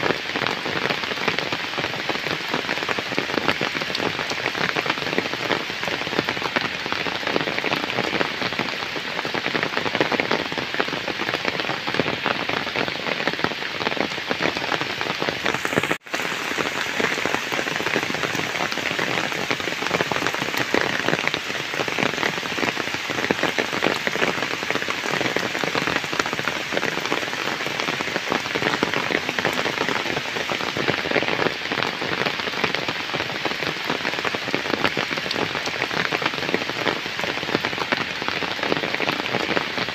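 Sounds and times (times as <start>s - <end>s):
heavy rain on flooded ground: 0.0s - 39.9s.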